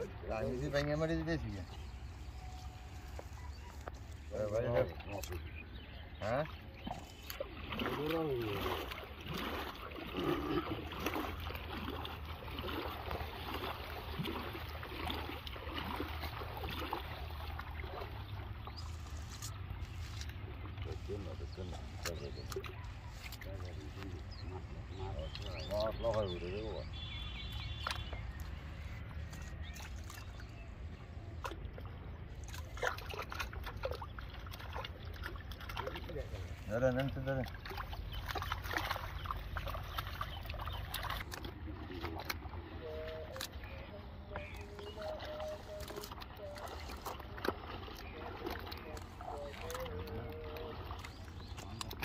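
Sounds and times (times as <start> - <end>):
water sloshing and splashing: 0.0 - 52.0.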